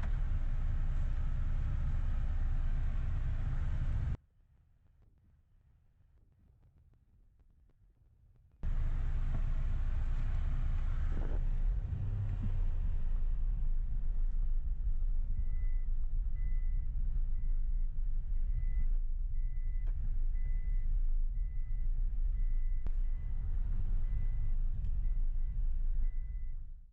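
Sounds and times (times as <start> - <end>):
heavy low rumble: 0.0 - 4.2, 8.6 - 26.9.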